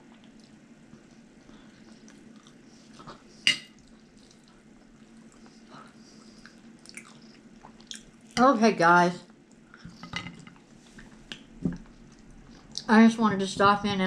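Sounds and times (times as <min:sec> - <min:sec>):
quiet chewing: 0:00.0 - 0:08.4, 0:09.3 - 0:12.9
low steady hum: 0:00.0 - 0:14.0.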